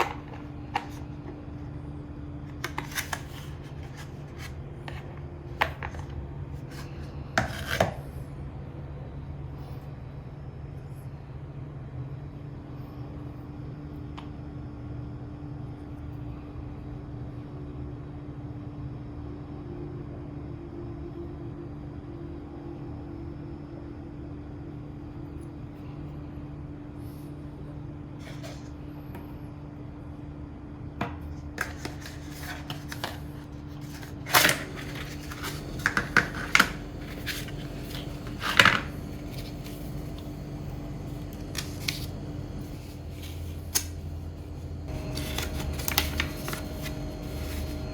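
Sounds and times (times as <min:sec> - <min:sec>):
low background hum: 0:00.0 - 0:47.9.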